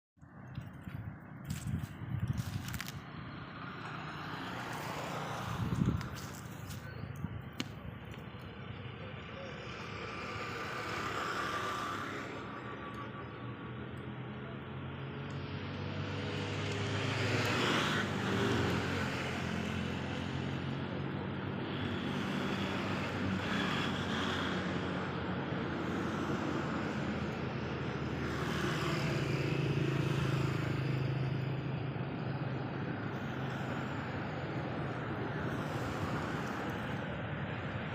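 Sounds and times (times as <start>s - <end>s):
vehicles passing on road: 0.2s - 37.9s.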